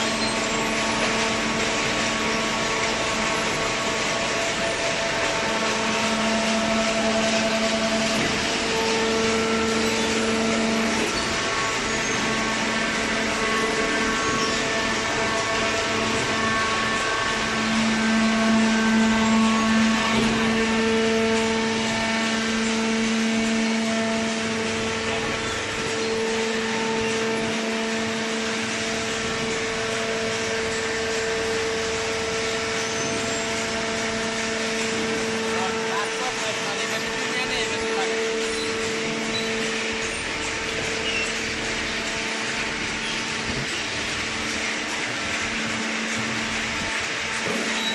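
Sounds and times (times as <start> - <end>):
hydraulic baler humming: 0.0 - 47.9.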